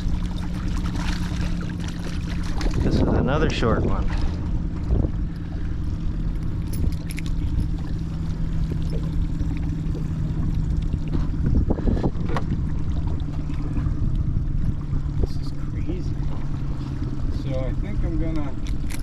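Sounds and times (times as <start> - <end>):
boat motor humming: 0.0 - 19.0
wind and water rumble: 0.0 - 19.0.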